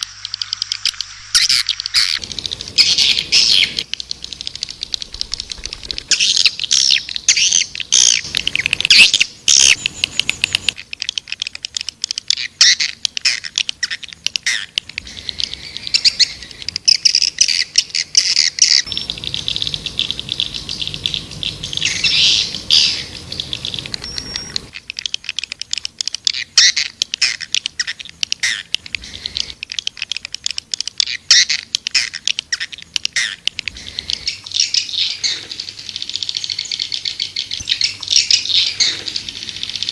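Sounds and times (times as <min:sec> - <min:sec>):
swiftlets chirping and twittering: 0:00.0 - 0:39.9.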